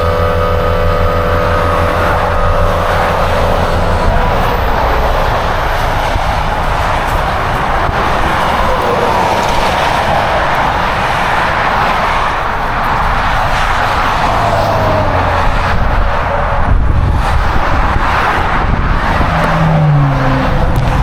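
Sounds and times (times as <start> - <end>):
car engine and tyre noise: 0.0 - 21.0.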